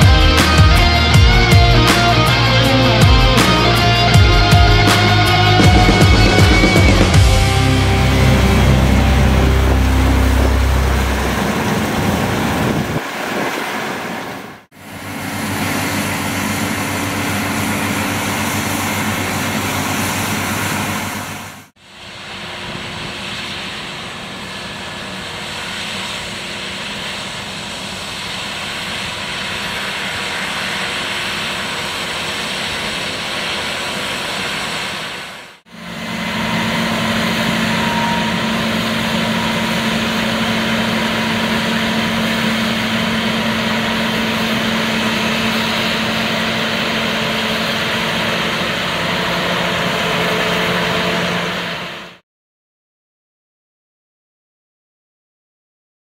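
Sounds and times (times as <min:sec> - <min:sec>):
diesel farm machinery running: 0:00.0 - 0:52.2.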